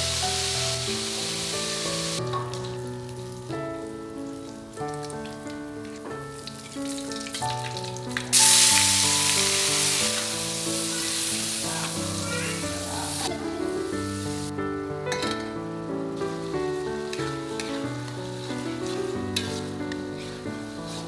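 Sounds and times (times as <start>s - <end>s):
food sizzling in hot oil: 0.0s - 14.5s, 15.2s - 21.0s
background music: 0.0s - 21.0s.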